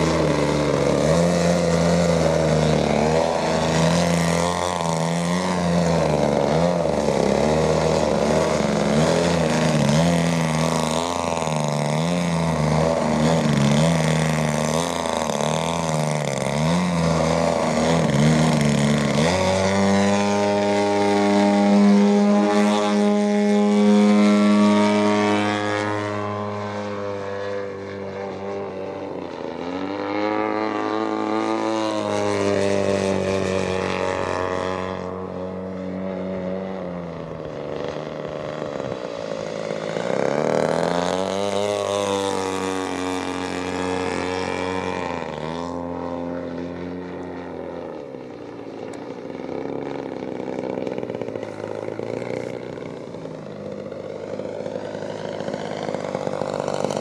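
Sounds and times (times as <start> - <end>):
model plane engine and propeller: 0.0 - 57.0.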